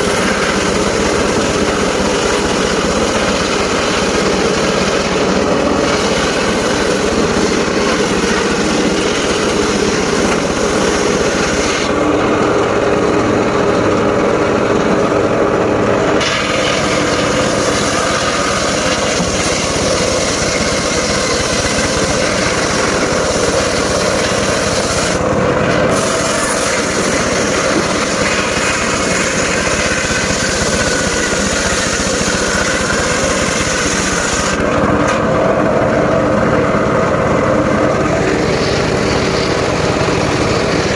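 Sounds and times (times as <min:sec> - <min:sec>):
sawmill blade cutting wood: 0:00.0 - 0:40.9.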